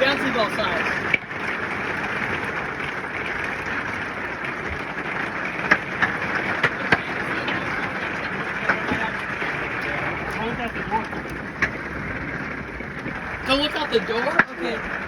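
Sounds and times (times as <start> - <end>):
hail clattering on roof: 0.0 - 15.0.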